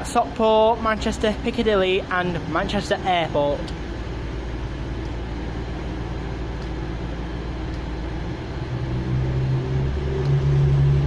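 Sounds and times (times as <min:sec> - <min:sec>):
diesel train engines: 0:00.0 - 0:11.0.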